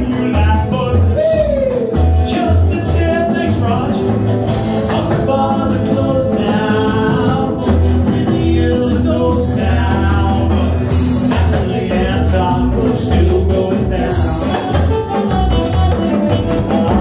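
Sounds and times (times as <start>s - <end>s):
lead vocals singing: 0.0s - 15.2s, 16.4s - 17.0s
rockabilly band playing live: 0.0s - 17.0s.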